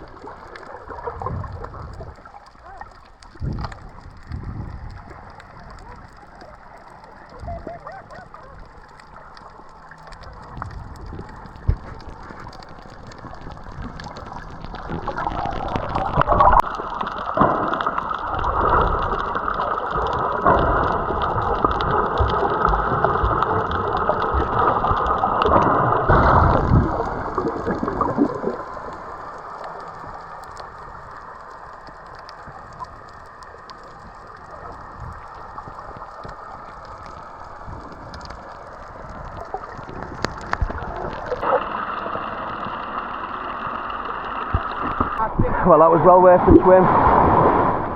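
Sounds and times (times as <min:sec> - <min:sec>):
water sloshing underwater: 0:00.0 - 0:47.9.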